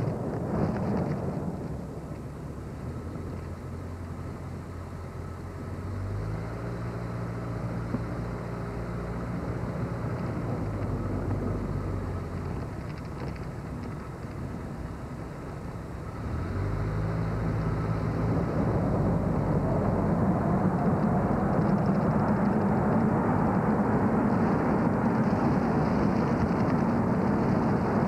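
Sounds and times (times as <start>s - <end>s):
car engine hum and road noise: 0.0s - 28.0s
low engine drone: 0.0s - 28.0s.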